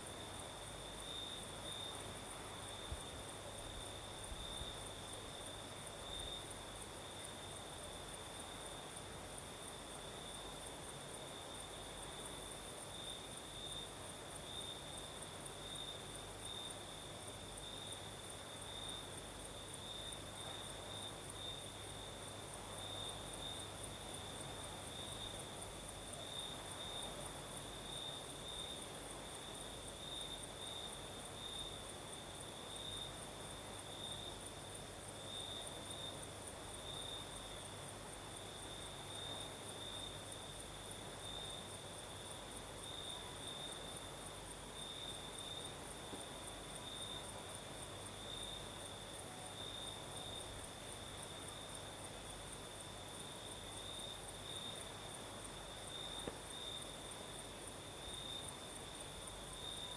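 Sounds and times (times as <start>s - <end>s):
crickets chirping: 0.0s - 59.9s
soft steady hiss: 0.0s - 59.9s.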